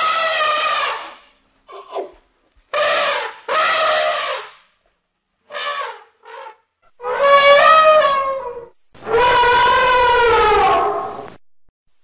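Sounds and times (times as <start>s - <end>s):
elephant trumpeting: 0.0s - 2.2s, 2.8s - 4.6s, 5.5s - 11.3s.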